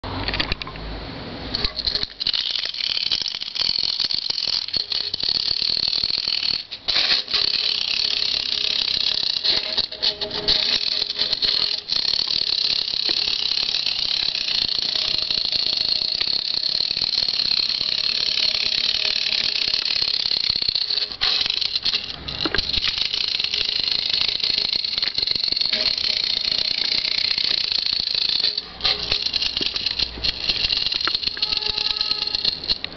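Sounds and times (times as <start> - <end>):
wind-up toy car motor whirring: 1.5 - 32.9.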